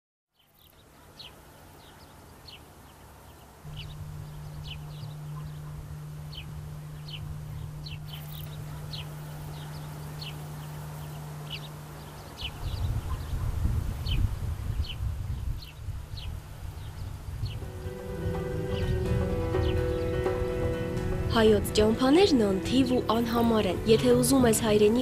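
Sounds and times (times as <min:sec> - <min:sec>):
birds chirping: 0:00.4 - 0:25.0
steady low hum: 0:00.5 - 0:25.0.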